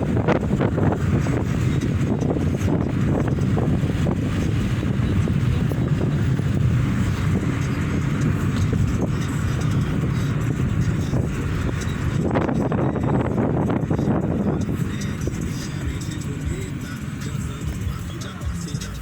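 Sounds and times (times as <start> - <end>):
car driving on a road: 0.0 - 19.0.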